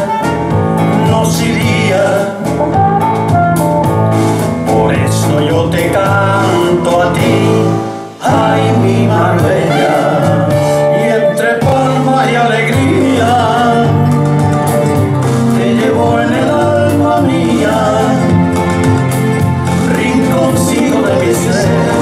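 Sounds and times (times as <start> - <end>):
instrumental accompaniment: 0.0 - 22.0
male duo singing: 0.8 - 2.6, 4.7 - 22.0.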